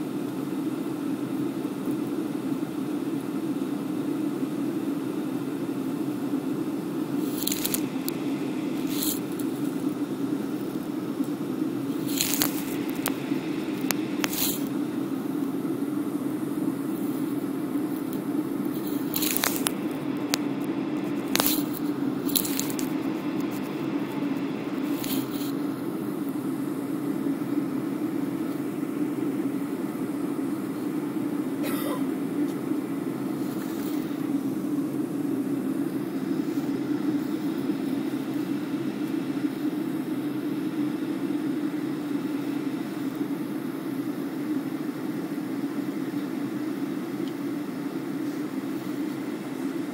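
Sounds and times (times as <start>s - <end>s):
aircraft cabin engine rush: 0.0s - 49.9s.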